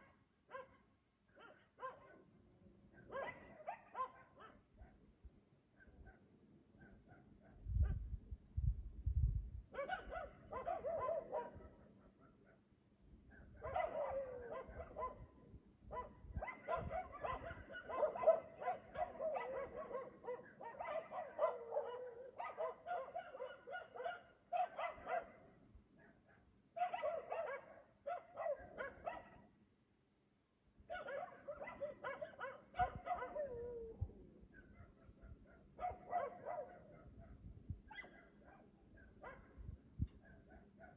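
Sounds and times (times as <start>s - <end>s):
dog barking: 0.0s - 0.8s, 1.4s - 2.3s, 2.9s - 5.0s, 5.8s - 8.0s, 9.7s - 12.7s, 13.3s - 29.5s, 30.9s - 40.9s.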